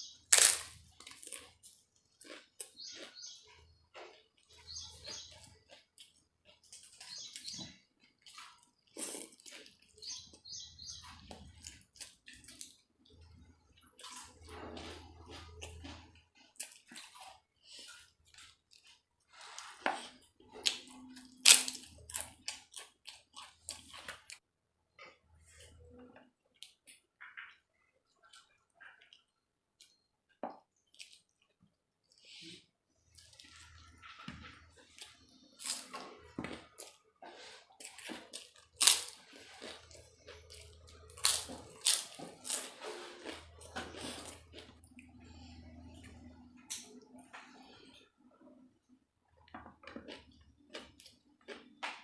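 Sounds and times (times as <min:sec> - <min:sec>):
person chewing and smacking: 0:00.0 - 0:24.4, 0:30.7 - 0:32.4, 0:33.0 - 0:48.1, 0:49.3 - 0:52.0.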